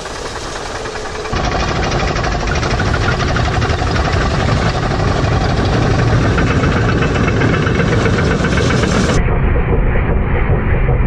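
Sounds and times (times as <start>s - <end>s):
bulldozer diesel engine knocking: 0.0s - 9.2s.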